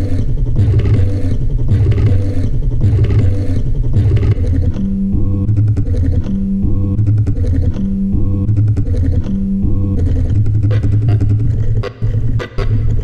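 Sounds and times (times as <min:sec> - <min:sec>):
deep pulsing drone: 0:00.0 - 0:13.0.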